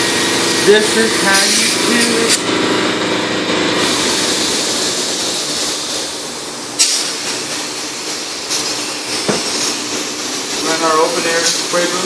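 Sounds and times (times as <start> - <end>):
paint spray gun hissing: 0.0 - 2.4, 3.8 - 12.0.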